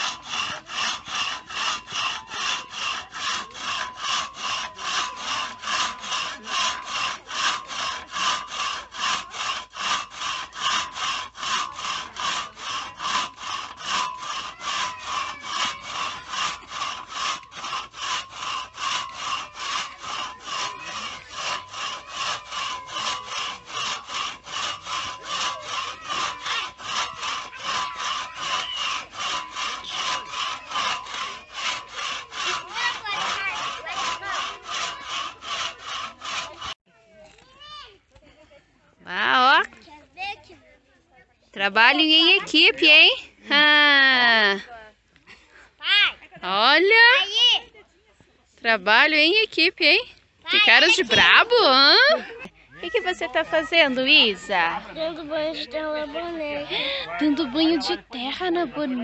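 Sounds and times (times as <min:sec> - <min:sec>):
hand saw cutting wood: 0:00.0 - 0:36.8, 0:39.1 - 0:40.5, 0:41.6 - 0:47.7, 0:48.7 - 0:59.0.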